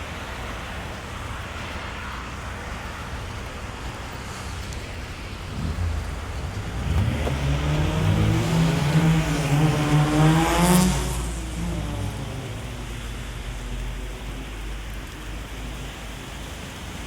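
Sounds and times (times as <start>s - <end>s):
car driving past on wet street: 0.0s - 17.0s
steady rain hiss: 0.0s - 17.0s.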